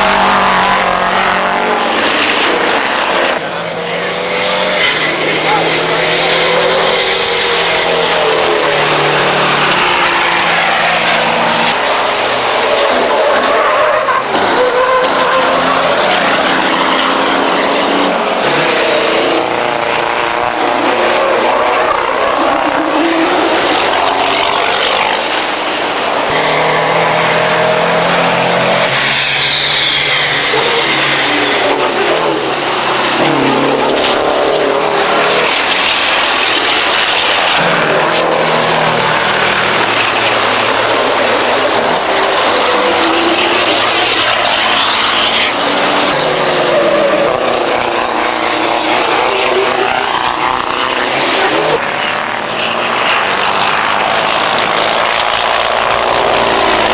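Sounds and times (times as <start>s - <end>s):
racing truck engines passing by: 0.0s - 56.9s.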